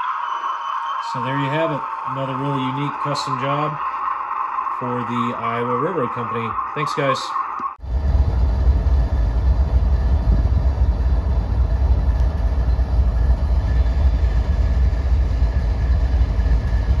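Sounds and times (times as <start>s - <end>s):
diesel locomotive engine rumbling: 1.0s - 17.0s.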